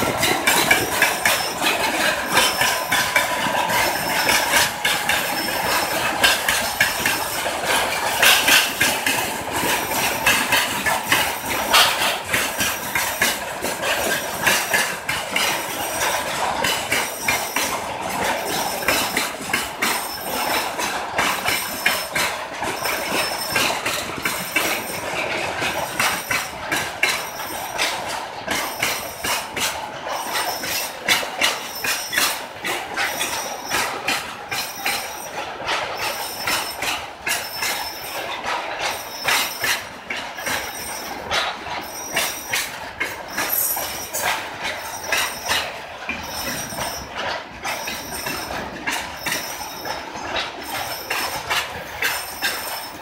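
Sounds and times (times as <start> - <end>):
freight wagons running noise: 0.0 - 53.0
high wheel squealing: 0.0 - 53.0
train wheels clacking over rail joints: 0.0 - 53.0.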